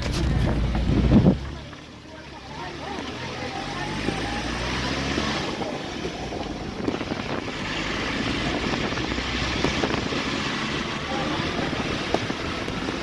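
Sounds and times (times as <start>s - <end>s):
low engine hum: 0.0s - 13.0s
road and wind noise: 0.0s - 13.0s.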